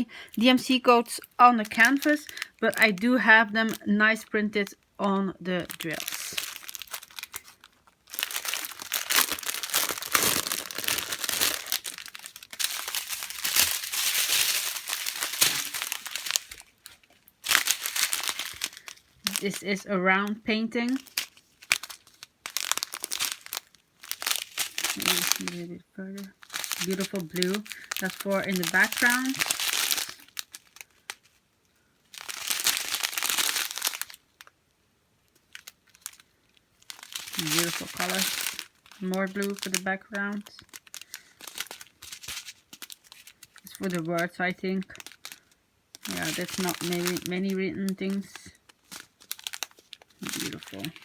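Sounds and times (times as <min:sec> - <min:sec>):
plastic packaging crinkling: 0:00.0 - 0:34.6, 0:35.2 - 0:51.0.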